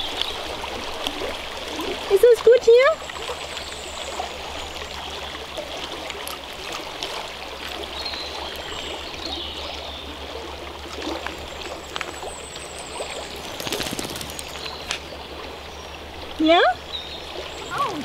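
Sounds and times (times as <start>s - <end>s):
stream trickling over stones: 0.0s - 18.0s.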